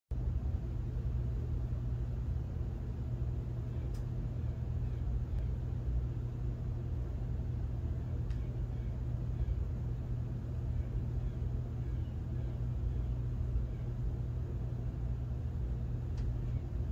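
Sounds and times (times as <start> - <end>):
steady low rumble: 0.1 - 16.9.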